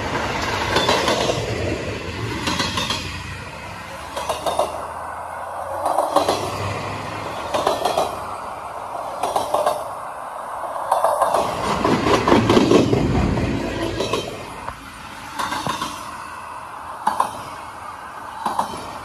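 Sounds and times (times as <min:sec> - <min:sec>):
wheels clacking over rail joints: 0:00.0 - 0:10.0, 0:10.7 - 0:16.2, 0:17.0 - 0:17.6, 0:18.3 - 0:19.0
deep train rumble: 0:00.0 - 0:19.0.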